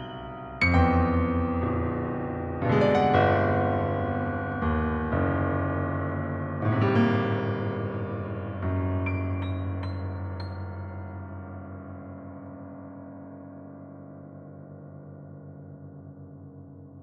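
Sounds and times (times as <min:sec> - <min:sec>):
piano chords ringing: 0:00.0 - 0:16.8.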